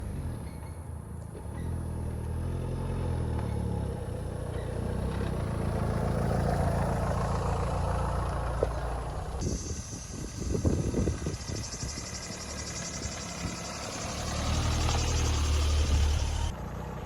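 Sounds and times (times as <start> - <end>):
vehicle engine driving: 0.0 - 17.0.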